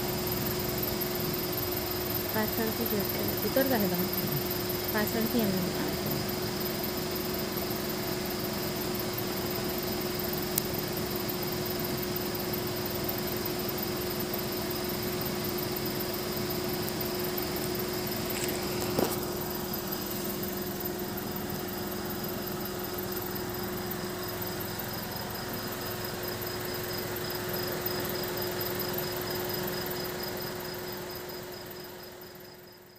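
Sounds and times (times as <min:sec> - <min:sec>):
insects chirping: 0:00.0 - 0:32.9
steady mechanical hum: 0:00.0 - 0:32.9.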